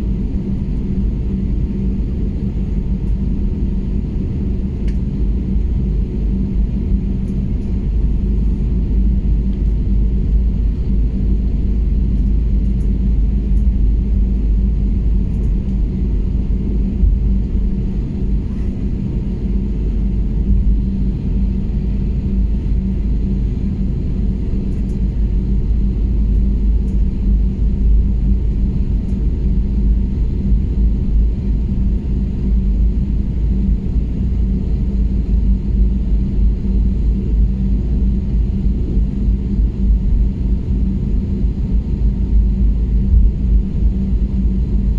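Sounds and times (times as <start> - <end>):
aircraft cabin low rumble: 0.0 - 44.9
low hum: 0.0 - 44.9.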